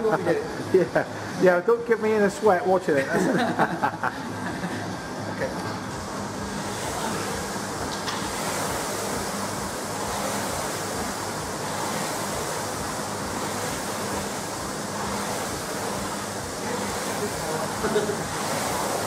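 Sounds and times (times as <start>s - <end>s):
rowing machine fan whooshing: 0.0s - 19.0s.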